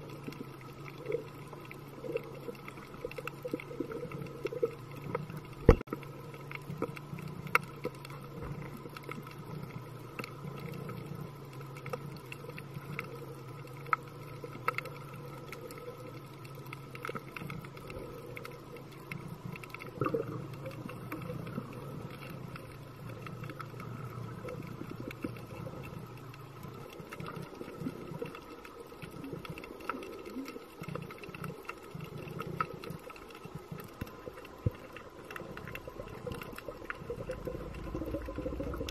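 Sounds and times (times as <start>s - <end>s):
sharp clicks and crackles: 0.0s - 38.9s
underwater low hum: 0.0s - 38.9s.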